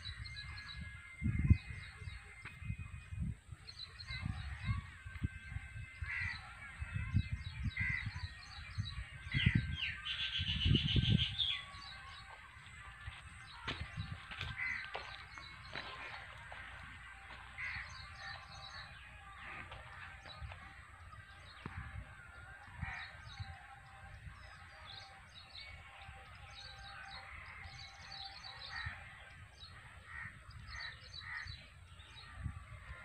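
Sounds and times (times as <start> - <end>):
birds chirping and calling: 0.0 - 33.0
harsh bird calls: 3.8 - 33.0.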